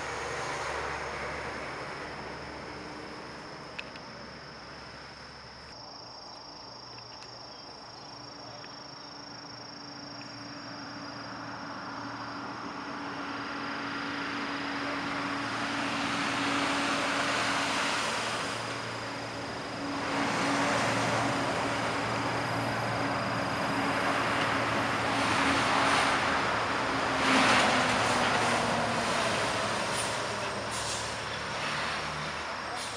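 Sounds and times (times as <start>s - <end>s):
passing vehicle noise: 0.0s - 5.8s, 10.0s - 32.9s.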